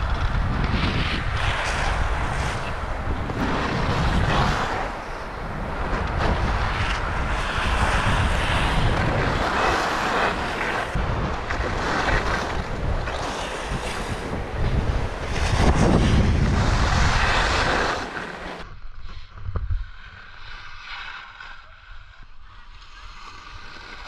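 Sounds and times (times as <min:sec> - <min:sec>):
skis sliding on snow: 0:00.0 - 0:24.0
wind rushing over microphone: 0:00.0 - 0:24.0.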